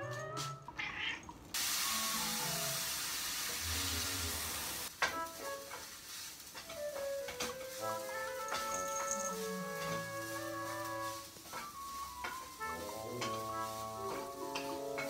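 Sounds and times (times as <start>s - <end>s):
gentle background music: 0.0s - 0.8s, 1.7s - 15.0s
food sizzling in a frying pan: 1.5s - 15.0s.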